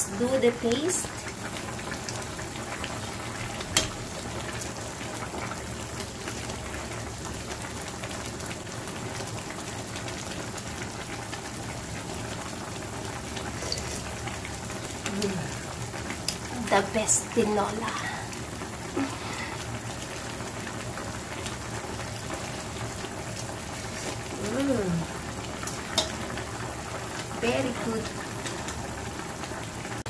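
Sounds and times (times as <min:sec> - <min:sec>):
soup boiling and bubbling: 0:00.0 - 0:30.0.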